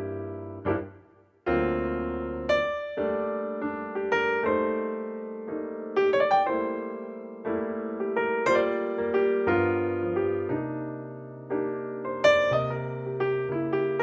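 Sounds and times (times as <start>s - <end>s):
slow solo piano piece: 0.0s - 14.0s.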